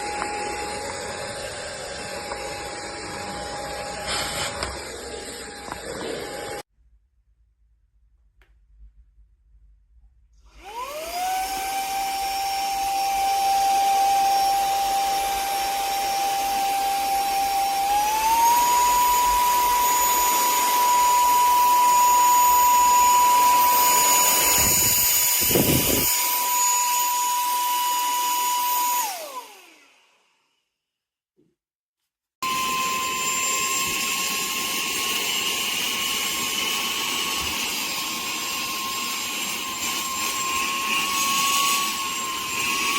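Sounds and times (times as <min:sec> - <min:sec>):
handheld vacuum motor whine: 0:00.0 - 0:06.7, 0:10.5 - 0:30.3, 0:32.4 - 0:42.9.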